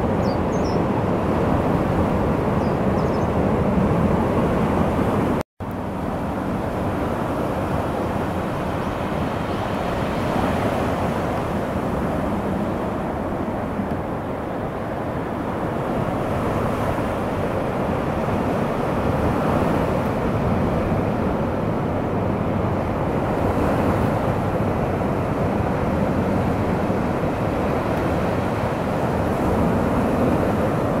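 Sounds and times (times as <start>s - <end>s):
sea waves on the shore: 0.0s - 31.0s
wind on the microphone: 0.0s - 31.0s.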